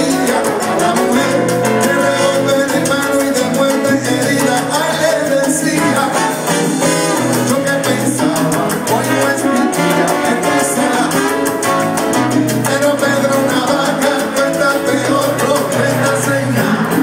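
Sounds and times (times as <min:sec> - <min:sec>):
salsa band playing live: 0:00.0 - 0:17.0.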